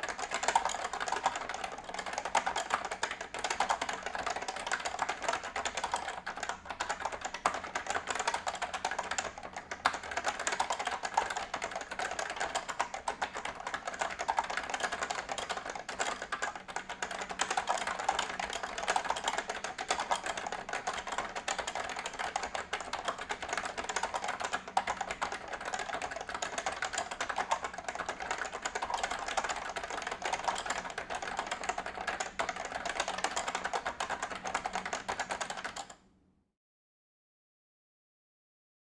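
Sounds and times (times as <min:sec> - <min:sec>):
fast keyboard typing: 0:00.0 - 0:36.0.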